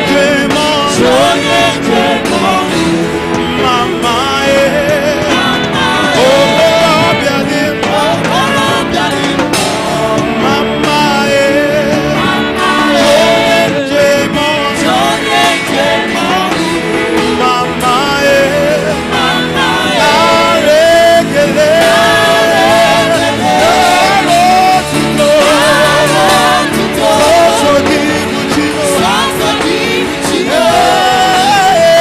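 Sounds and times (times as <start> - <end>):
gospel band music: 0.0 - 32.0.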